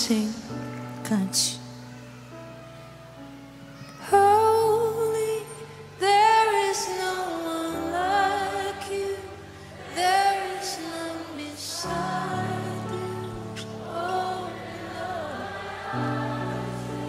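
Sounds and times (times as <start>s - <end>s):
woman singing worship song: 0.0s - 1.7s, 4.0s - 17.0s.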